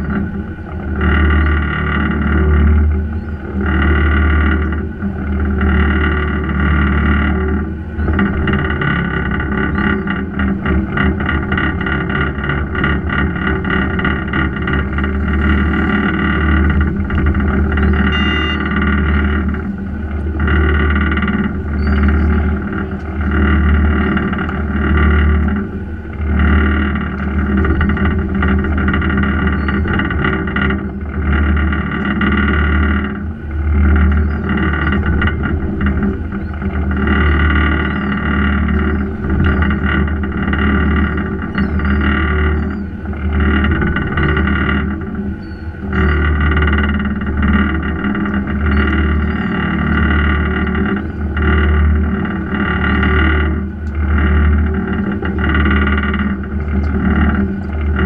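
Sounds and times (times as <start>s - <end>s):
boat engines running: 0.0s - 58.0s.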